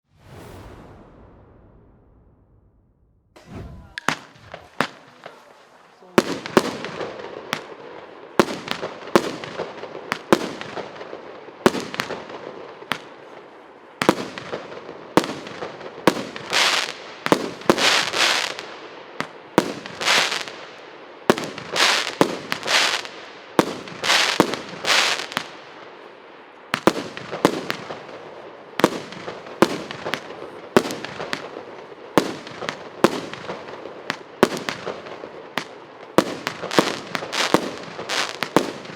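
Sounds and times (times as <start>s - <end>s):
fireworks launch and burst bangs: 0.0s - 13.1s, 14.0s - 25.8s, 26.7s - 38.9s
fireworks crackling: 3.4s - 38.9s.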